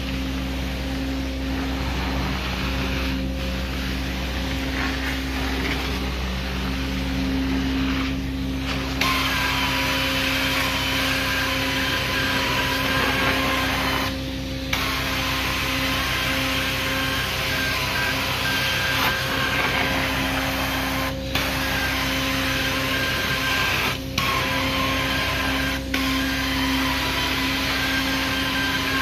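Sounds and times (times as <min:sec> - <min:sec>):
extraction vacuum running: 0:00.0 - 0:29.0.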